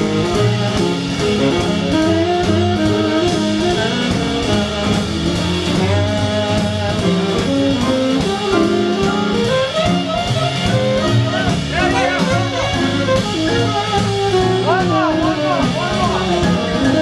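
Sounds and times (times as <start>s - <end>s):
jazz big band playing: 0.0s - 17.0s
walking bass line: 0.0s - 17.0s.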